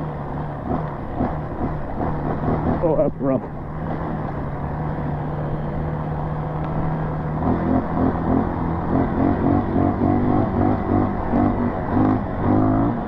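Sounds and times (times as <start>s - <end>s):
dirt bike engine at full throttle: 0.0s - 13.0s.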